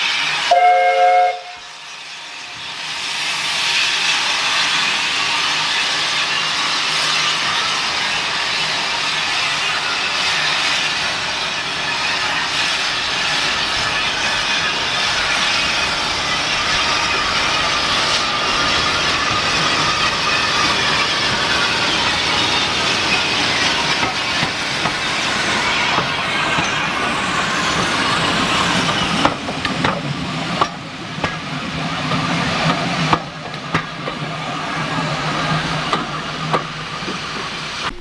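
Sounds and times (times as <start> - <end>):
steam train hissing: 0.0 - 38.0.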